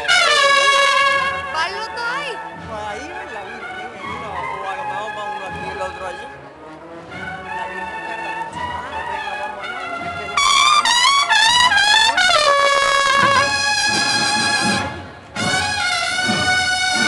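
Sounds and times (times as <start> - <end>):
brass band playing a march: 0.0 - 17.0.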